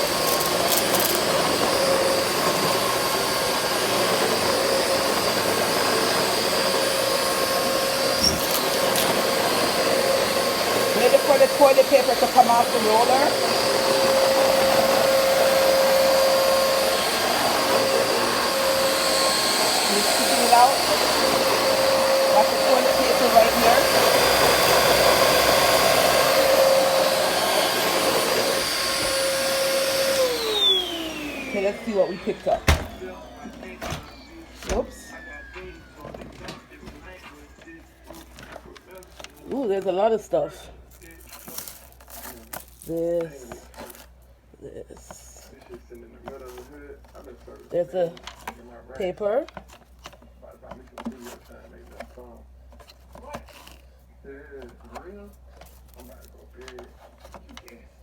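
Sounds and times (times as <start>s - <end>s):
vacuum cleaner running: 0.0s - 52.1s.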